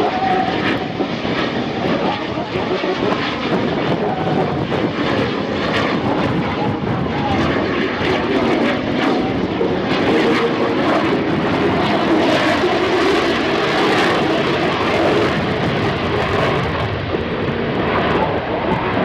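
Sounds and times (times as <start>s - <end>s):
jet fighter flying overhead: 0.0s - 19.0s.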